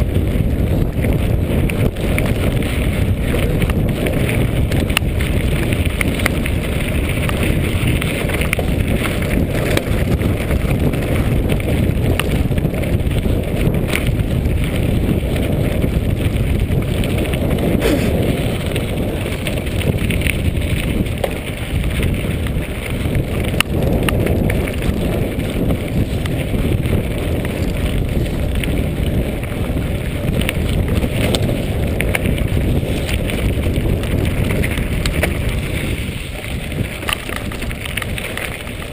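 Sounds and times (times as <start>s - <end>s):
bike rattling: 0.0s - 38.9s
wind buffeting microphone: 0.0s - 38.9s
tyres crunching on gravel: 0.3s - 38.9s.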